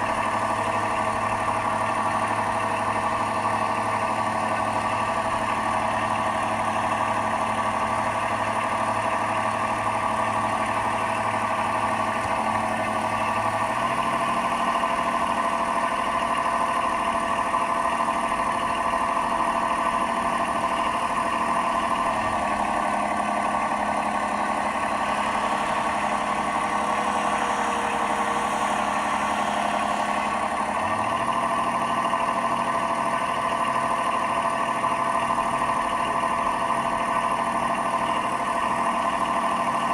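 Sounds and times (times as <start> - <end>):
simulated diesel engine sound: 0.0 - 39.9.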